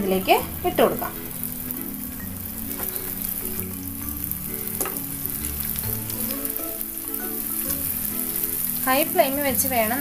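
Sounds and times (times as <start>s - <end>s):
dough sizzling in oil: 0.0s - 10.0s.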